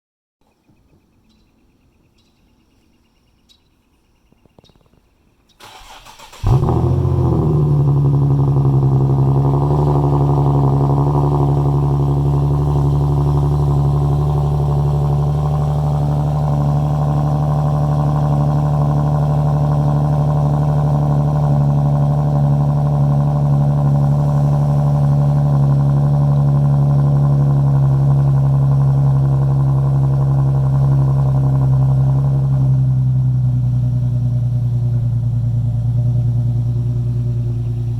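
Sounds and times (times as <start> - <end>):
car engine idling loudly: 6.4 - 37.9.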